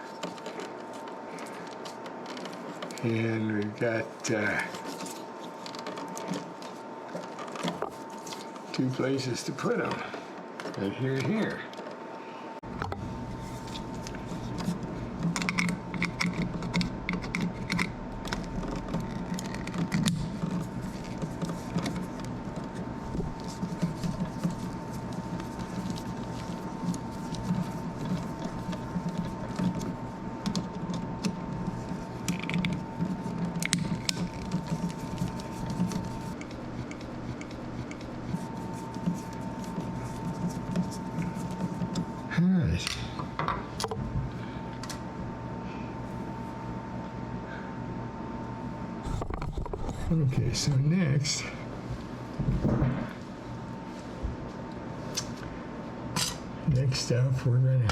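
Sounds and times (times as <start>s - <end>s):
steady low hum: 0.0s - 57.9s
thin steady whine: 0.0s - 57.9s.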